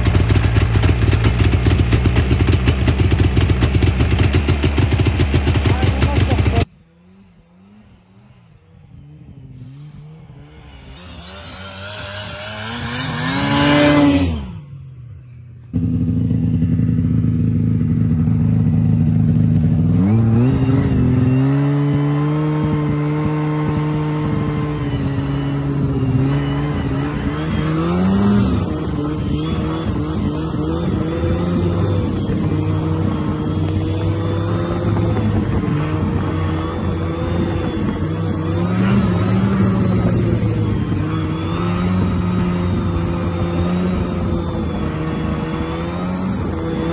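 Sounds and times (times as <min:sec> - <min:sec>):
snowmobile engine revving: 0:00.0 - 0:14.8, 0:15.7 - 0:46.9
engine passing by: 0:00.0 - 0:46.9.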